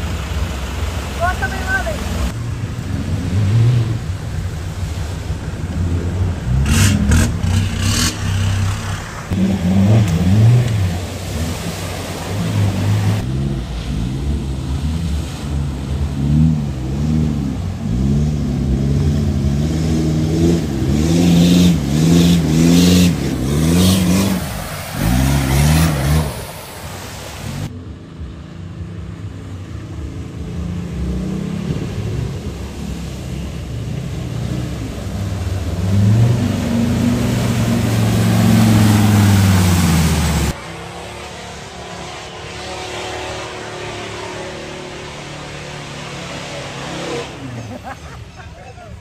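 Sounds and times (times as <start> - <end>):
engine revving: 1.2 - 27.7, 30.3 - 48.0.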